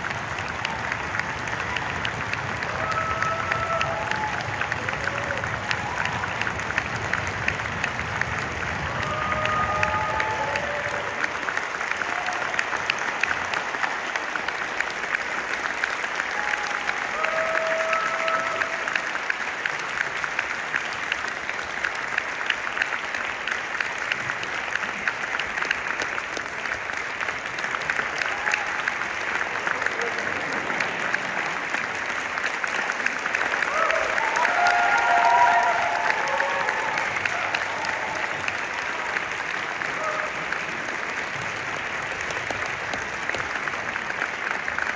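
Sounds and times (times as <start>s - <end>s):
audience applauding: 0.0s - 44.9s
calls from crowd: 0.0s - 44.9s.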